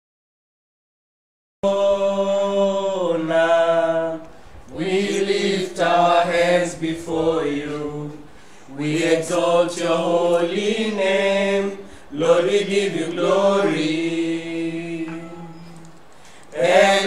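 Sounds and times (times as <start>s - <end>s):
man singing unaccompanied: 1.6s - 8.2s, 8.8s - 16.0s, 16.6s - 17.0s.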